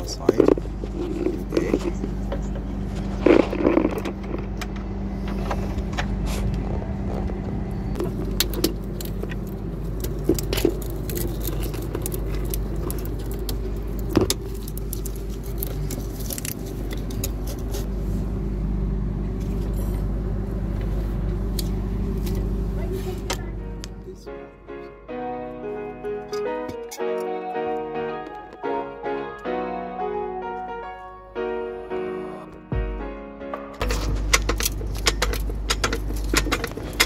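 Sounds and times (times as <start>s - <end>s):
steady engine-like hum: 0.0s - 26.9s, 33.7s - 37.0s.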